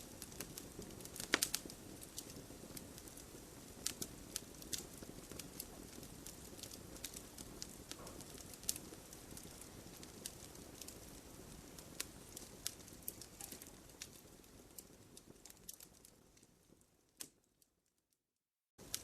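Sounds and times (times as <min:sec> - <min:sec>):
low rush of flame: 0:00.0 - 0:16.9.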